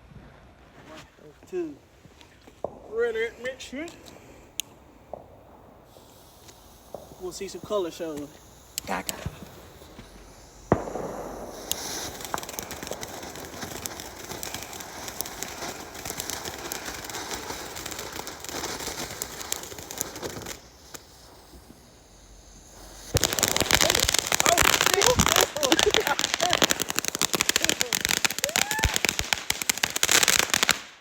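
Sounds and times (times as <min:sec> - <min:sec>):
fireworks crackling and hissing: 0:00.0 - 0:31.0
firework bang: 0:02.6 - 0:31.0.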